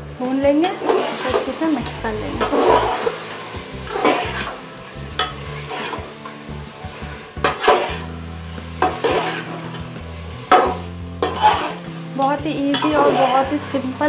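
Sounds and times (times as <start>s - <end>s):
meat sizzling in oil: 0.0s - 14.0s
spatula scraping metal pot: 0.6s - 14.0s.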